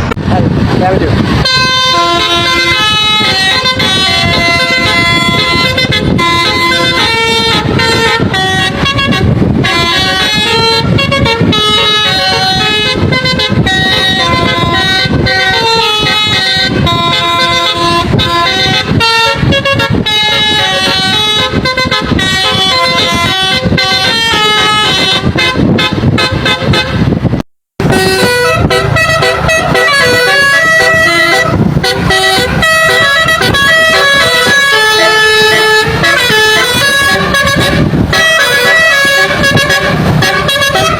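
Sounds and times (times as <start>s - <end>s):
low vehicle rumble: 0.0s - 40.9s
truck horn playing a melody: 1.3s - 40.9s.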